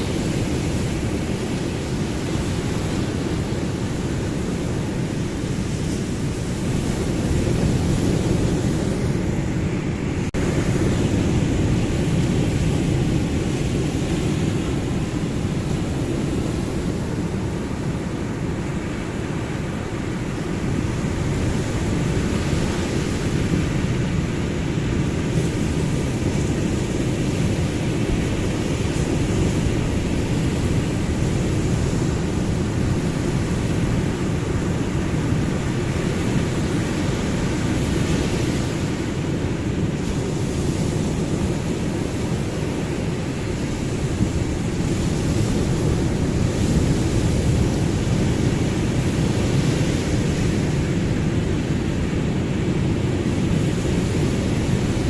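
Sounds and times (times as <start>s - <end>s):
ocean surf rushing: 0.0s - 55.0s.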